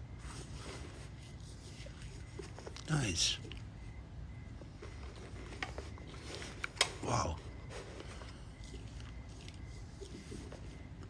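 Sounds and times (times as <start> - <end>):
faint handling sounds: 0.1 - 11.0.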